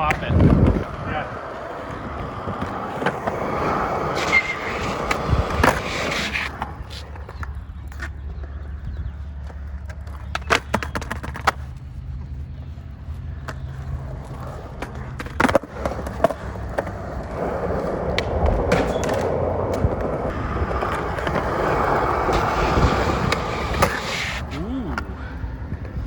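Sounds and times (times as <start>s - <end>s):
skateboard popping and landing: 0.0s - 8.1s, 9.4s - 11.7s, 13.4s - 25.1s
skateboard rolling on concrete: 0.0s - 26.0s.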